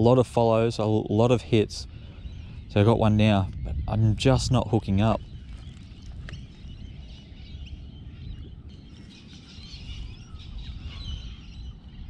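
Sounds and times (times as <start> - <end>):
birds chirping: 0.0 - 12.0
low steady rumble: 0.0 - 12.0.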